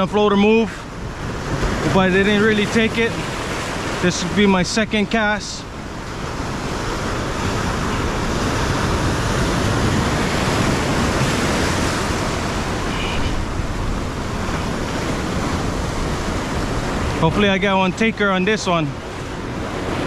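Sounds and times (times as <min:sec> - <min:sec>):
ocean surf washing ashore: 0:00.0 - 0:20.0.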